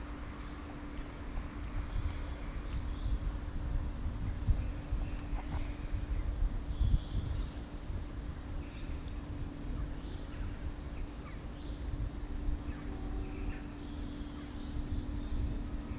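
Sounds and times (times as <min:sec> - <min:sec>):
low hum: 0:00.0 - 0:15.9
rumbling outdoor background: 0:00.0 - 0:15.9
small birds chirping: 0:00.0 - 0:15.9.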